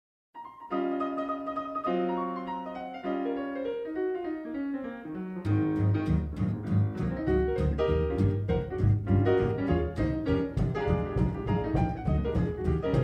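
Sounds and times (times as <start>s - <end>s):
boogie-woogie piano: 0.4s - 13.0s.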